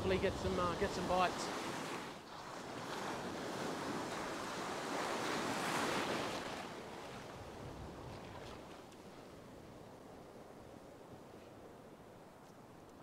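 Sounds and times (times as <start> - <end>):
ocean surf breaking: 0.0 - 10.5.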